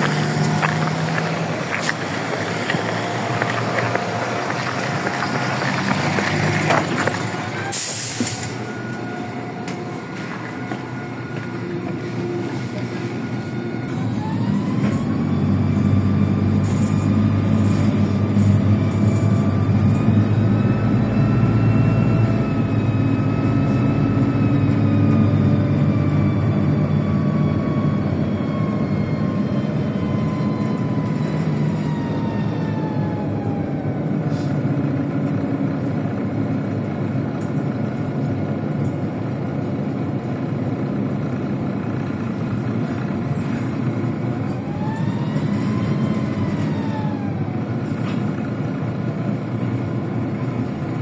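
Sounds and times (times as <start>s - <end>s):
bus engine and transmission whine: 0.0s - 51.0s
traffic noise: 0.0s - 51.0s.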